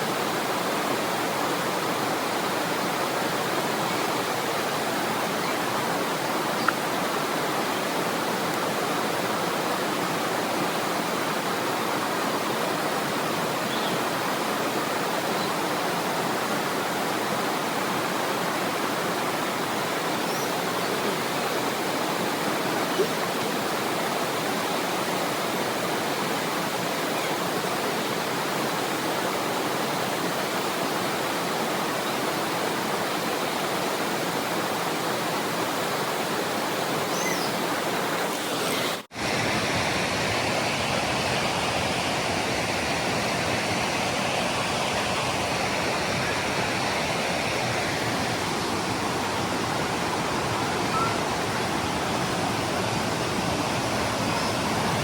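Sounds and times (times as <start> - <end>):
waterfall and stream rushing: 0.0 - 55.0.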